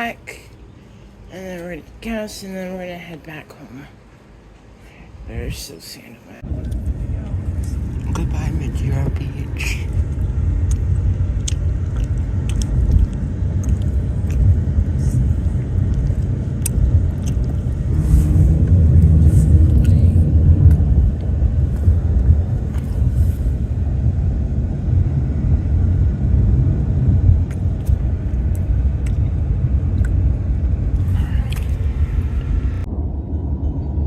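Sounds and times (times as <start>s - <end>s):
car engine and road rumble: 6.4s - 34.0s.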